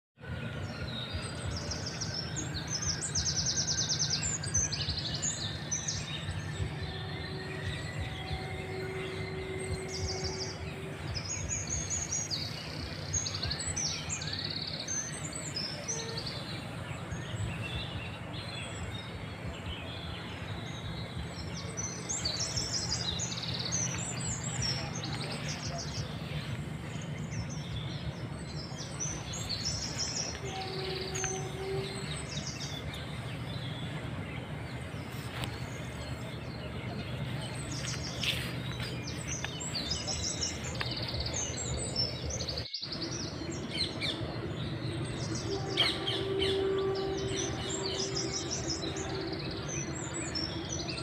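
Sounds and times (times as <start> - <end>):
small birds chirping and trilling: 0.2 - 51.0.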